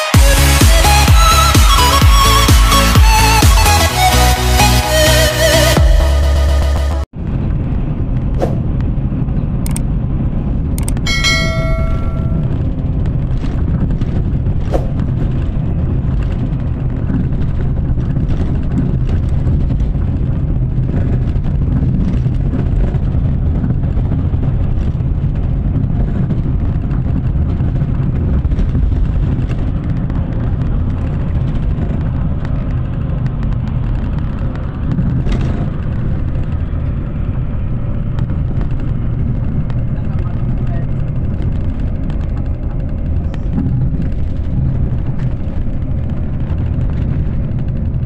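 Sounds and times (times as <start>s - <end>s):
vehicle driving on highway: 0.0s - 48.0s.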